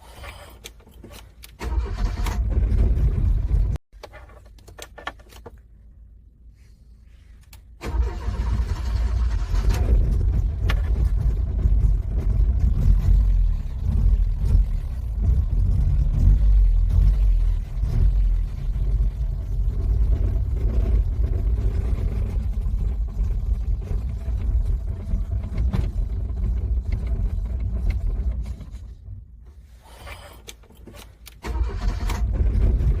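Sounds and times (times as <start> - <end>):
car engine cranking: 0.0 - 5.6, 7.5 - 33.0.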